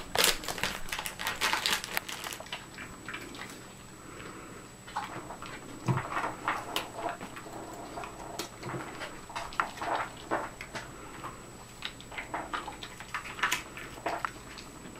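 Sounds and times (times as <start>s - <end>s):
dog chewing a treat: 0.0s - 3.8s, 4.8s - 14.9s.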